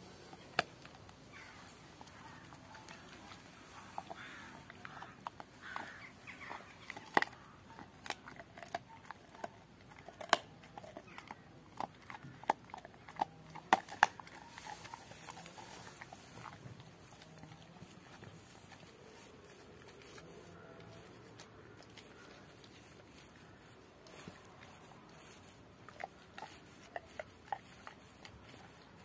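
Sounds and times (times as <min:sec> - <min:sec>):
dog gnawing a bone: 0:00.0 - 0:29.0.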